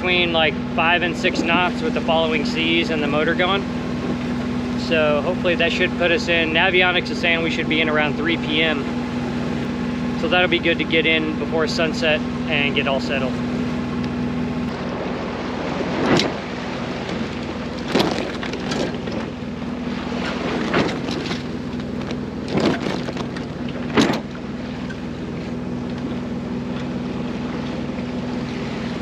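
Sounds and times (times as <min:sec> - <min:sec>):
boat engine droning: 0:00.0 - 0:29.0
waves whooshing: 0:00.0 - 0:29.0.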